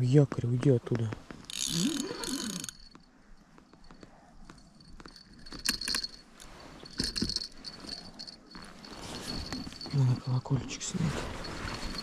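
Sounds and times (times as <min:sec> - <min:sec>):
thin steady high ring: 0:01.4 - 0:12.0
bite bell jingling: 0:01.5 - 0:03.1, 0:03.8 - 0:12.0.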